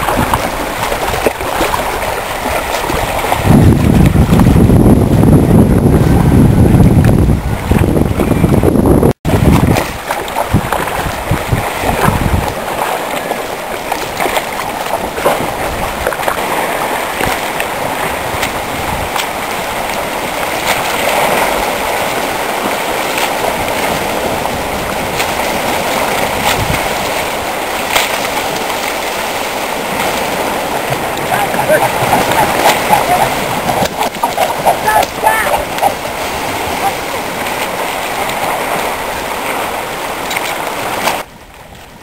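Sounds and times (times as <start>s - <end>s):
small waves sloshing among ice: 0.0s - 4.6s, 9.3s - 42.0s
wind buffeting microphone: 0.0s - 42.0s.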